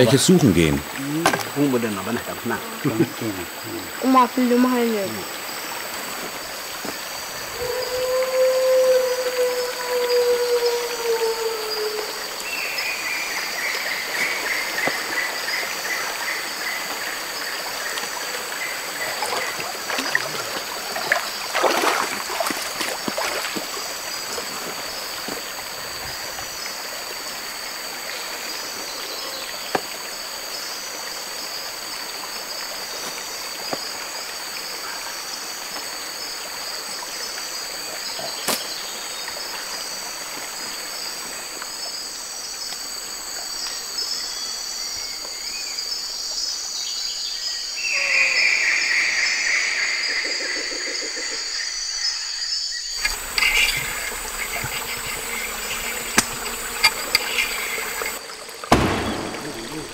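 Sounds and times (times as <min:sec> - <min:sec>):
stream running: 0:00.0 - 0:50.2, 0:52.9 - 0:59.9
high insect drone: 0:00.0 - 0:59.9.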